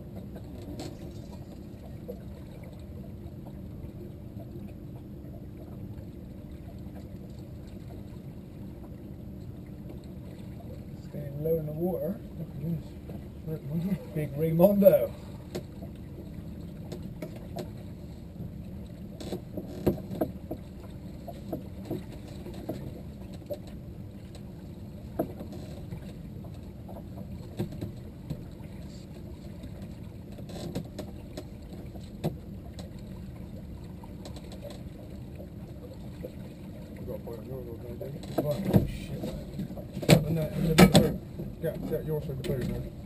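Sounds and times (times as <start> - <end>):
wind and water around hull: 0.0 - 43.0.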